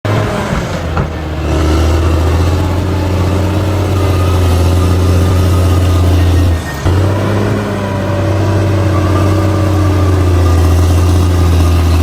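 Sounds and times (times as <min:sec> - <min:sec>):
diesel engine droning under load: 0:00.0 - 0:12.0.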